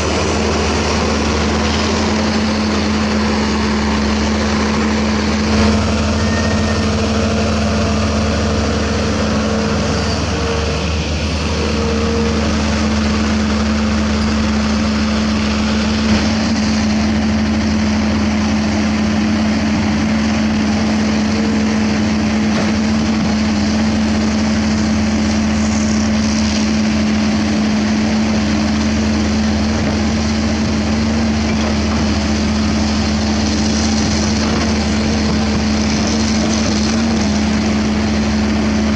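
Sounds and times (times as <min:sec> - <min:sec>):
diesel earthmover engine under load: 0:00.0 - 0:38.9.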